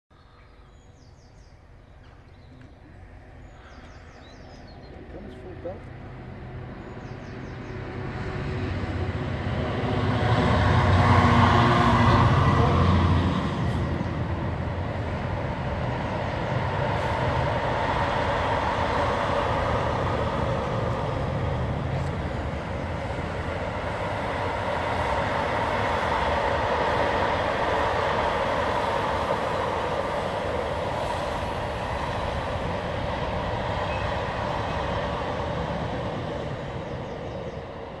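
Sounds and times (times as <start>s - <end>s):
train rumbling over bridge: 0.2s - 38.0s.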